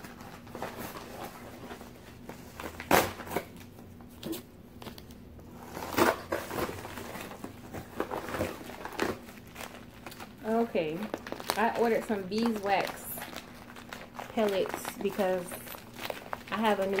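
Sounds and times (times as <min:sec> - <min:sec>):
paper envelope rustling and crinkling: 0:00.0 - 0:17.0.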